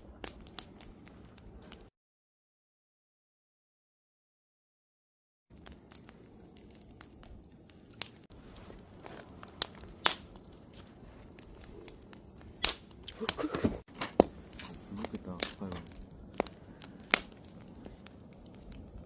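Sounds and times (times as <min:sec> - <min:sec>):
burning wood crackling and popping: 0:00.0 - 0:01.9, 0:05.5 - 0:19.0
low rustle of flames: 0:00.0 - 0:01.9, 0:05.5 - 0:19.0.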